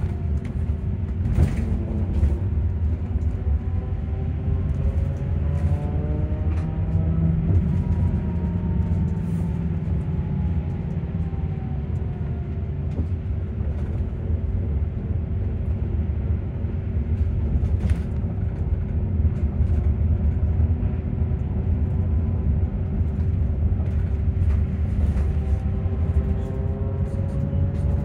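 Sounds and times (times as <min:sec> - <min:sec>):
road rumble: 0:00.0 - 0:28.0.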